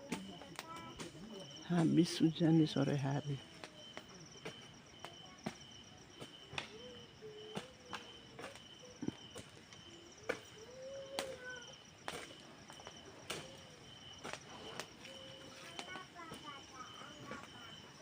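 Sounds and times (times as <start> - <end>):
insect high steady trill: 0.0 - 18.0
insect pulsing trill: 0.0 - 18.0.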